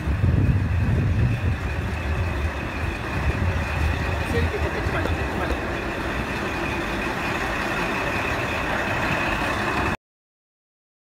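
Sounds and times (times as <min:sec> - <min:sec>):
diesel railcar idling: 0:00.0 - 0:10.0.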